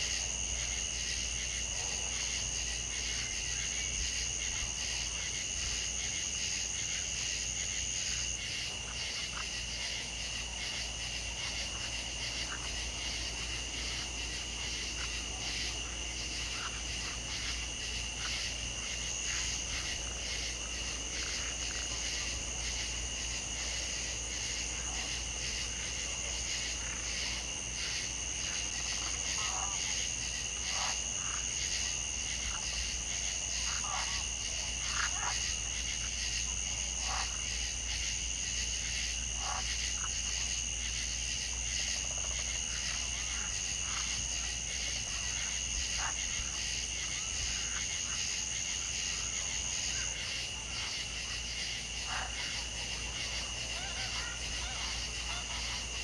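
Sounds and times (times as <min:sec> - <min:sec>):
frog croaks: 0:08.4 - 0:38.1, 0:38.9 - 0:40.6, 0:41.4 - 0:56.0.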